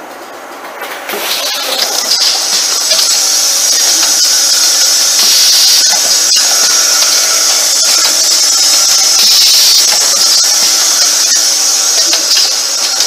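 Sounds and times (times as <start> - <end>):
sharp machine clicks: 0.5 - 13.0.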